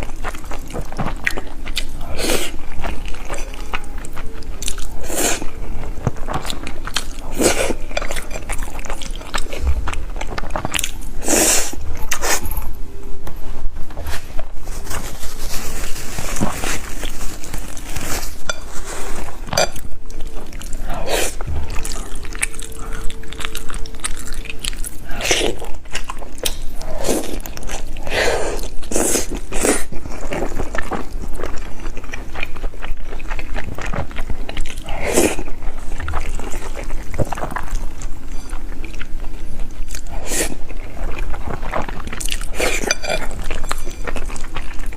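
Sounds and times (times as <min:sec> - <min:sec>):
person chewing food: 0:00.0 - 0:12.8, 0:16.2 - 0:44.9.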